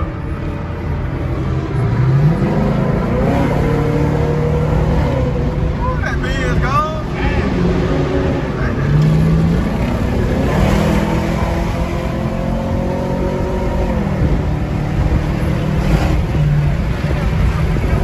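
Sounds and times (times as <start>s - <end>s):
car engine driving: 0.0s - 18.0s
road noise: 0.0s - 18.0s.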